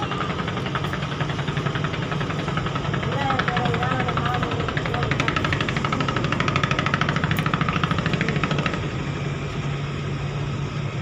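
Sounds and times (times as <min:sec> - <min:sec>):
low hum of ship engines: 0:00.0 - 0:11.0
rapid mechanical rattling: 0:00.0 - 0:11.0.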